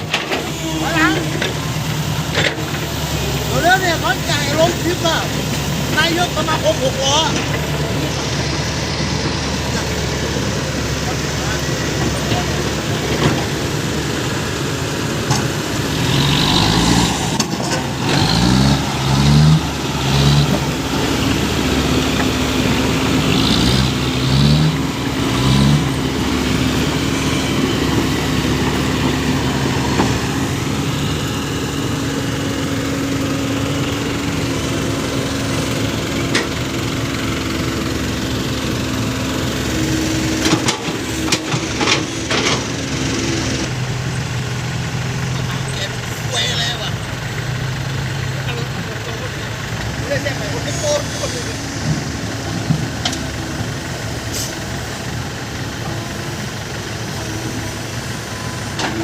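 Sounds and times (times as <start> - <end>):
truck engine revving and idling: 0.0 - 59.0.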